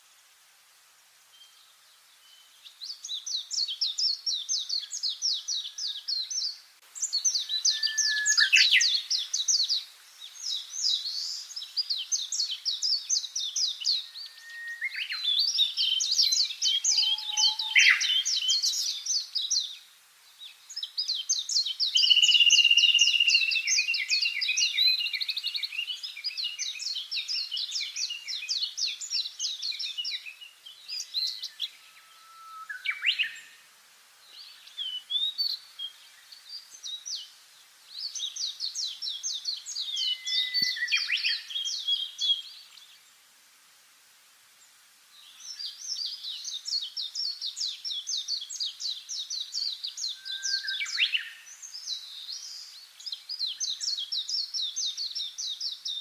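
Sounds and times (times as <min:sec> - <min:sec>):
songbirds singing: 0:00.9 - 0:56.0.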